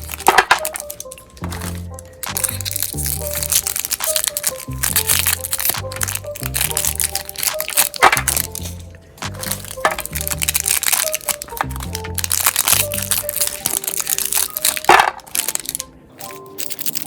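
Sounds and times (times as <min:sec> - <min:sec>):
meat grinder crunching: 0:00.0 - 0:15.8
background music: 0:00.0 - 0:17.0.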